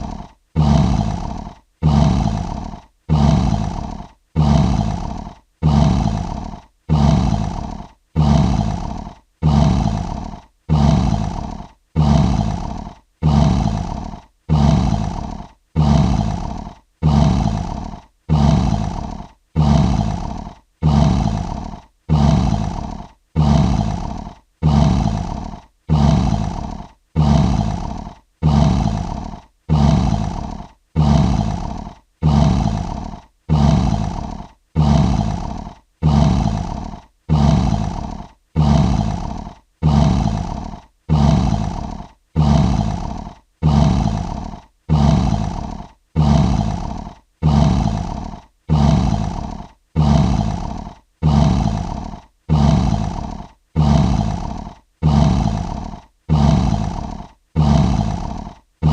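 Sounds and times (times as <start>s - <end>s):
lion roar: 0.0s - 58.9s.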